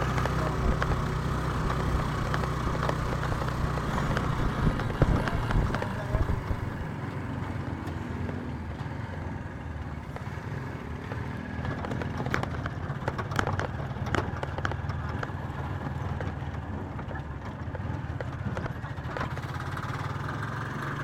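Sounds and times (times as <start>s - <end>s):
rattles and clicks: 0.0s - 9.3s, 11.0s - 21.0s
vehicle engine and road rumble: 0.0s - 21.0s.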